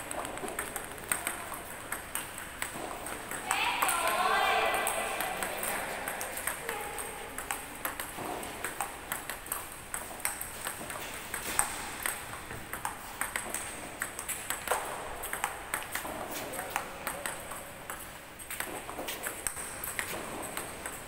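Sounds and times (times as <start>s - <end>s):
table tennis balls clicking: 0.0s - 21.0s.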